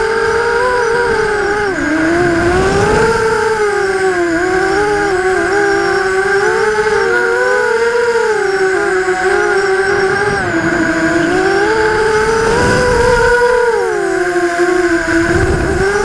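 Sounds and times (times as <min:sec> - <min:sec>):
drone motors whining: 0:00.0 - 0:16.0
wind rumble on microphone: 0:00.0 - 0:16.0.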